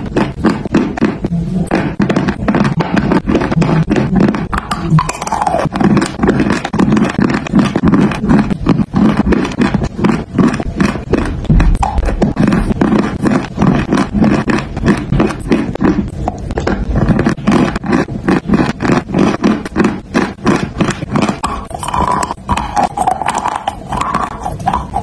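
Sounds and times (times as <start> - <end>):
crunching and chewing clay: 0.0 - 25.0.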